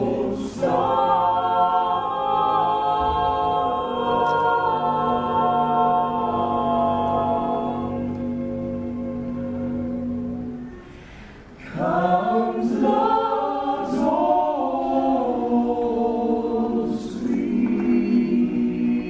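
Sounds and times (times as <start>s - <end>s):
a cappella group singing in harmony: 0.0s - 19.0s.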